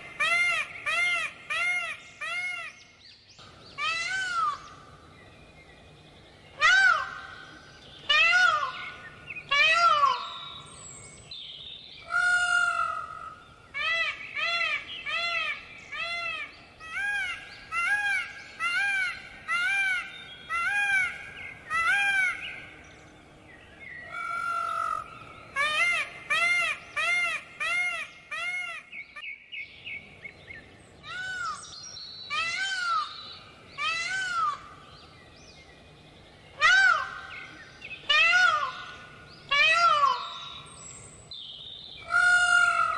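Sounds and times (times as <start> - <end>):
peacocks calling: 0.0 - 5.2, 6.4 - 11.1, 12.0 - 23.4, 24.0 - 29.2, 31.0 - 35.2, 36.4 - 41.3, 42.0 - 42.9.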